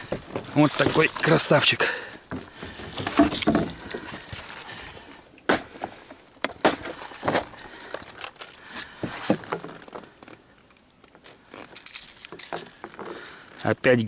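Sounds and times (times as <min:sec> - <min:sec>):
fish handling clicks and rustles: 0:00.0 - 0:14.0.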